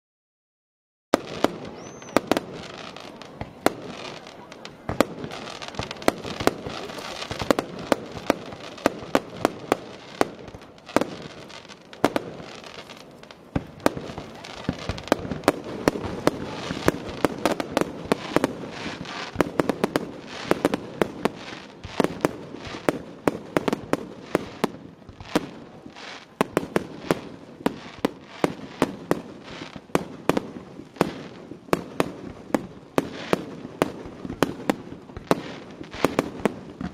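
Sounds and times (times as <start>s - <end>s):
fireworks bangs and crackles: 1.1s - 36.9s.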